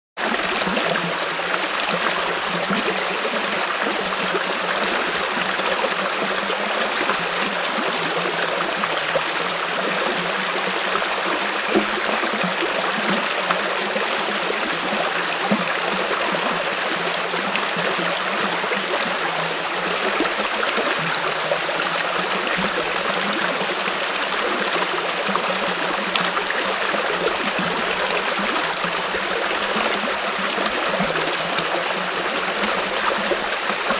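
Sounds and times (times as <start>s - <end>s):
stream running over rocks: 0.2s - 33.9s.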